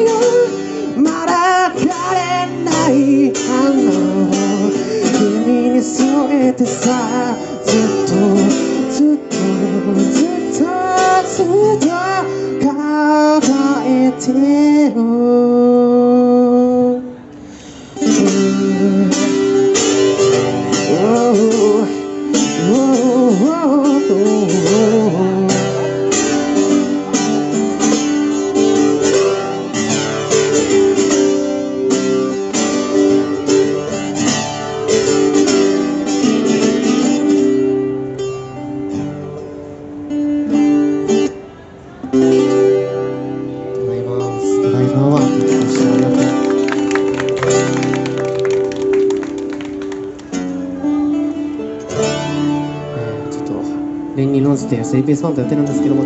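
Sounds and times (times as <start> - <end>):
sliding guitar melody: 0.0 - 56.0
strummed acoustic guitar chords: 0.0 - 56.0.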